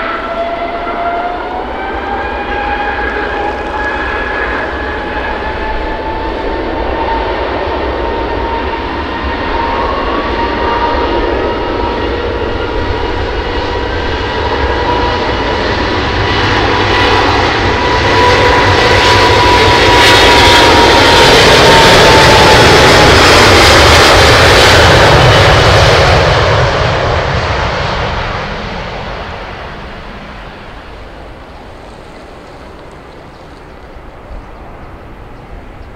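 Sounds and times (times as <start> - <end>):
jet engines whining: 0.0 - 35.9.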